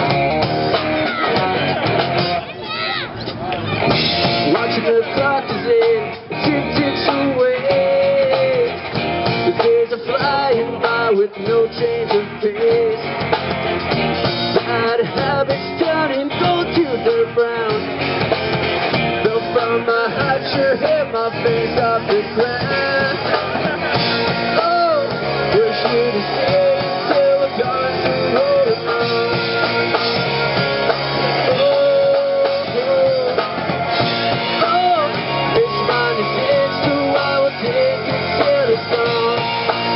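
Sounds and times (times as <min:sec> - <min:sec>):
pitch-bending guitar melody: 0:00.0 - 0:39.9
rock band playing: 0:00.0 - 0:39.9.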